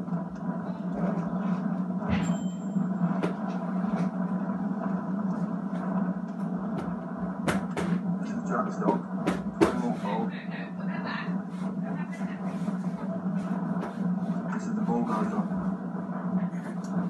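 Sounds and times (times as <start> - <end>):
low hum of old video: 0.0 - 17.0.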